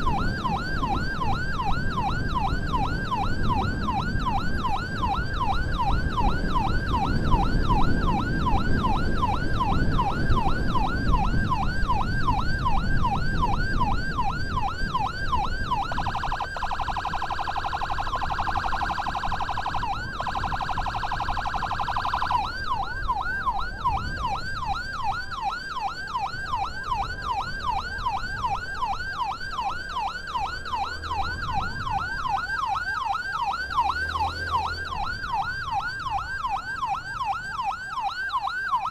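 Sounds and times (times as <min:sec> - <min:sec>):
ambulance siren yelp and warble: 0:00.0 - 0:38.9
moving vehicle rumble: 0:00.0 - 0:38.9.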